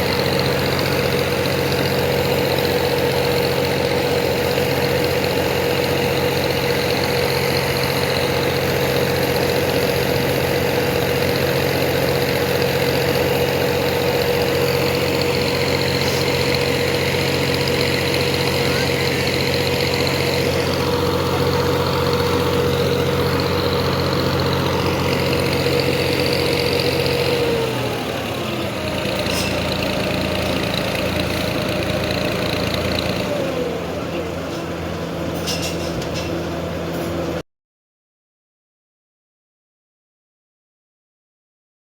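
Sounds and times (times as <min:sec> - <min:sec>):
feed mixer machine humming and whining: 0:00.0 - 0:37.4.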